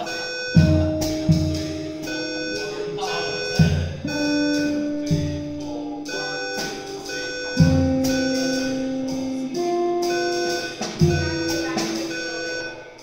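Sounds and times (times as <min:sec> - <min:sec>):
electric guitar jazz: 0:00.0 - 0:13.0
fire alarm pulsing high tone: 0:00.0 - 0:13.0.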